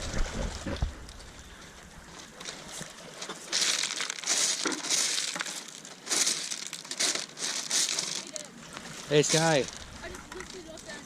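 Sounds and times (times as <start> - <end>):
pebbles crunching: 0.0 - 11.0.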